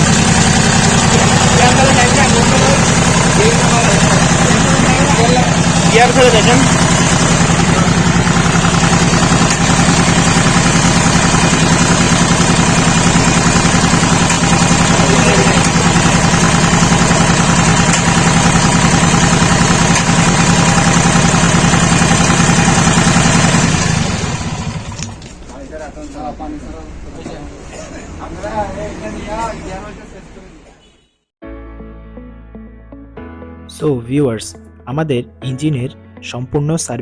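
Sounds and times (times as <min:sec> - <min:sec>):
diesel engine clattering: 0:00.0 - 0:30.8.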